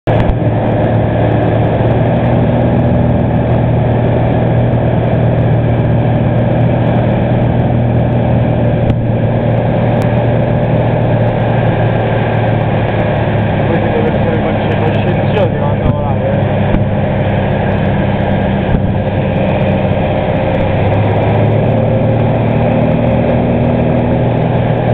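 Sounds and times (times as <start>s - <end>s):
light aircraft engine droning: 0.0s - 24.9s.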